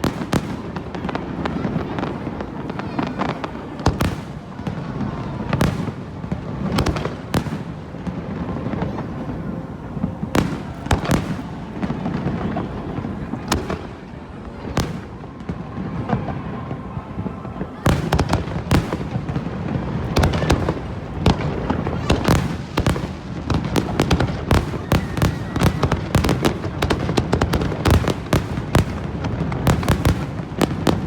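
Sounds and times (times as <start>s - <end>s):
fireworks bursting with sharp bangs: 0.0s - 31.0s
steady background noise: 0.0s - 31.0s.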